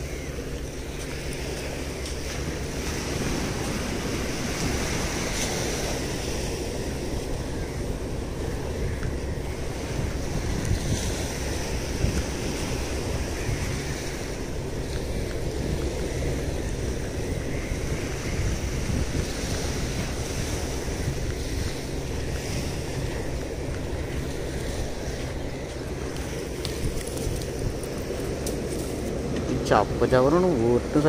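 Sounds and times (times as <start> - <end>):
sea surf washing onto beach: 0.0 - 31.0
wind buffeting microphone: 0.0 - 31.0.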